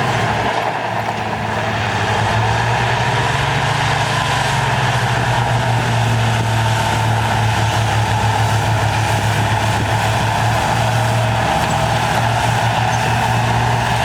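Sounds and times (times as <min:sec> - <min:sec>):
heavy machine diesel engine droning: 0:00.0 - 0:14.0.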